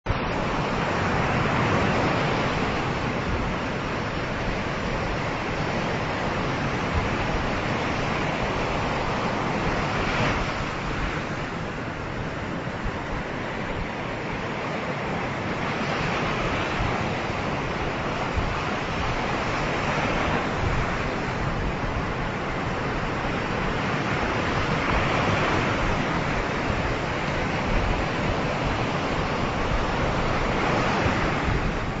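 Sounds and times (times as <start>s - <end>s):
waves breaking on a beach: 0.1s - 32.0s.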